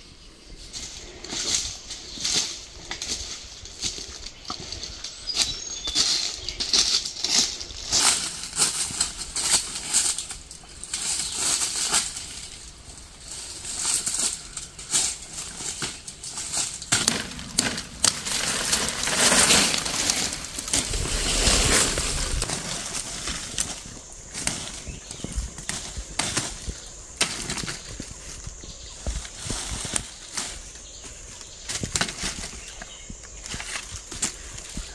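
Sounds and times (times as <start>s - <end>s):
leaves and twigs rustling: 0.2s - 34.9s
footsteps crunching through dry leaves: 0.9s - 34.9s.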